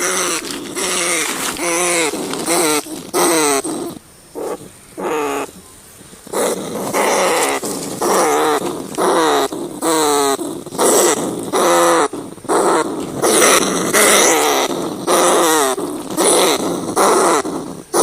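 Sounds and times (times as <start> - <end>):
rats squealing: 0.0 - 5.6, 6.3 - 18.0.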